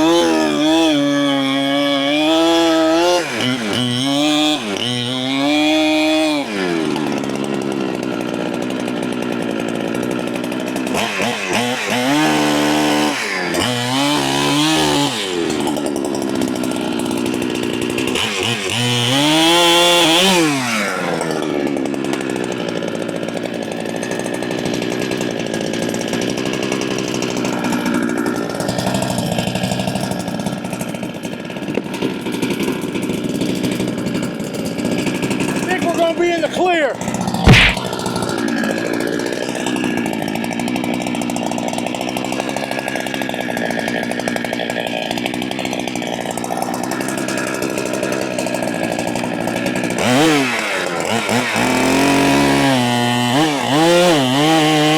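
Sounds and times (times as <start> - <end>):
chainsaw revving and cutting: 0.0 - 54.9.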